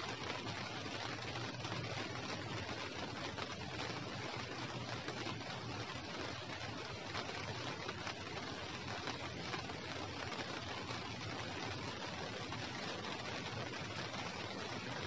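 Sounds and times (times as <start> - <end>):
light drizzle falling: 0.0 - 15.0.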